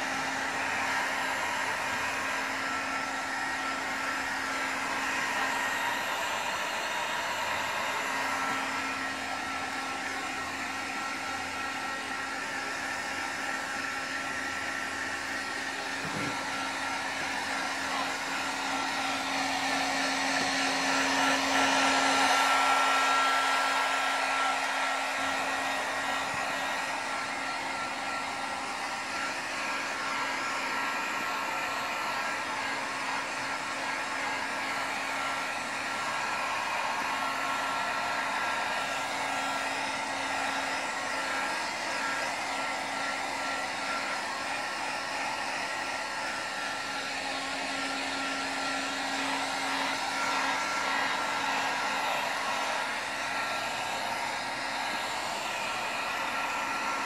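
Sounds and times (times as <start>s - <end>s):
heat gun blowing: 0.0s - 57.0s.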